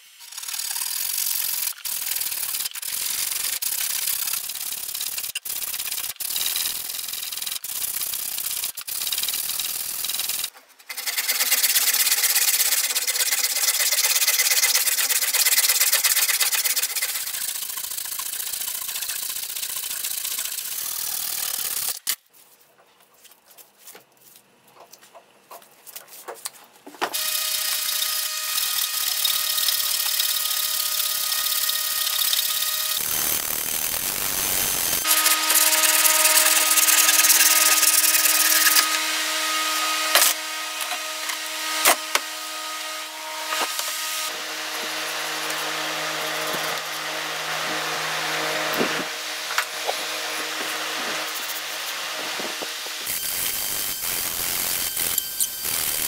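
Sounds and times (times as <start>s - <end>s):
hand saw cutting wood: 0.0s - 22.2s, 27.1s - 56.0s.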